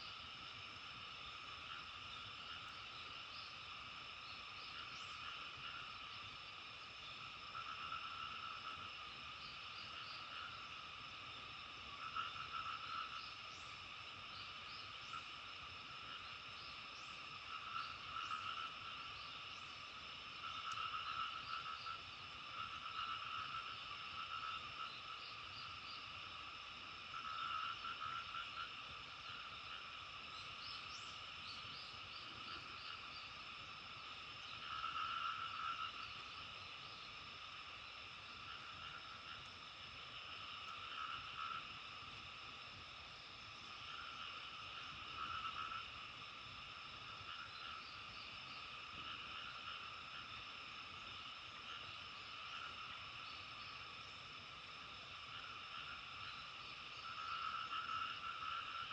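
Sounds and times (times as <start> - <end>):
frogs croaking trills: 0.0 - 58.9
high frog chorus: 0.0 - 58.9.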